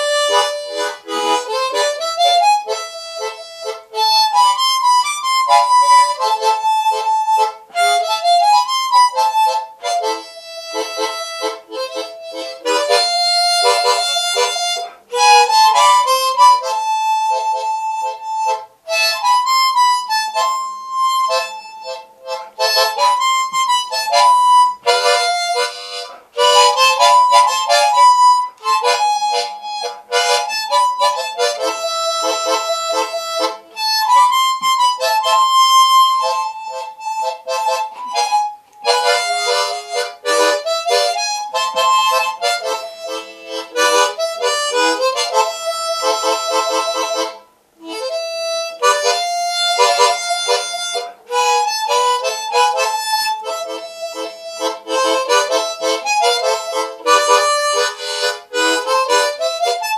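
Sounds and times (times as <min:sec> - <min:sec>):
harmonica melody: 0:00.0 - 0:59.9.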